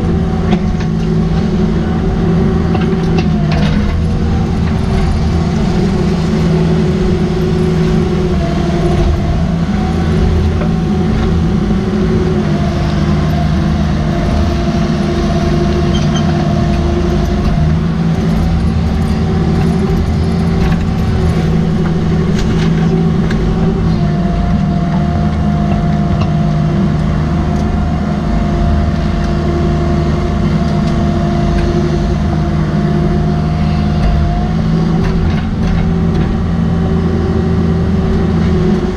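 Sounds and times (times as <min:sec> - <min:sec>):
diesel engine under load: 0:00.0 - 0:38.9
hydraulic whine: 0:00.0 - 0:38.9.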